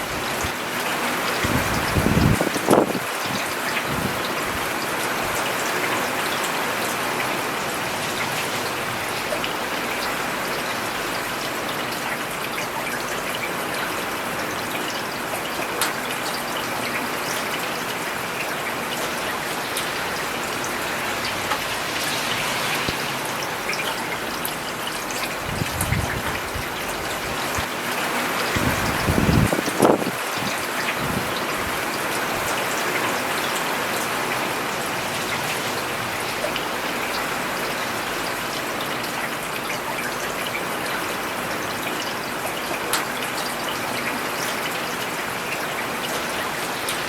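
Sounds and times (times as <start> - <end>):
rain on a paved road: 0.0 - 47.0.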